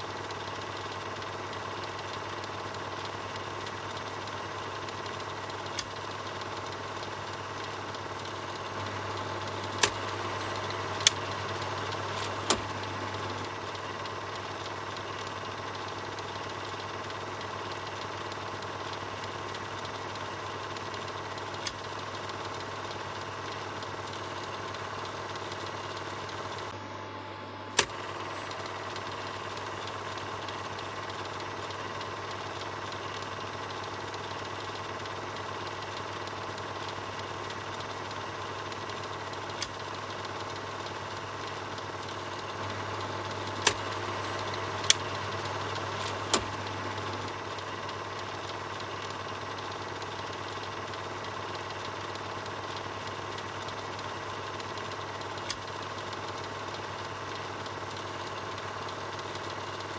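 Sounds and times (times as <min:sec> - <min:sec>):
film projector whirring: 0:00.0 - 0:59.9
sharp clicks: 0:00.2 - 0:26.8, 0:27.8 - 0:59.9.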